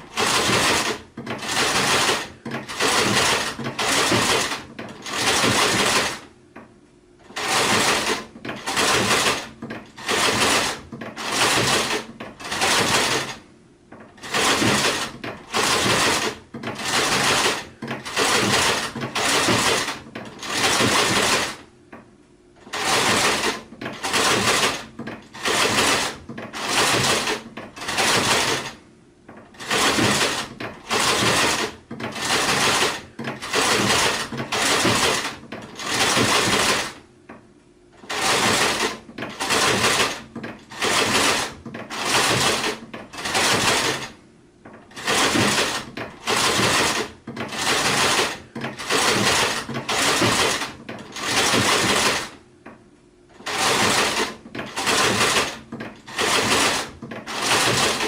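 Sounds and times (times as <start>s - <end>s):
sewing machine stitching: 0.0s - 6.3s, 7.2s - 21.7s, 22.6s - 37.1s, 38.0s - 52.4s, 53.3s - 58.0s.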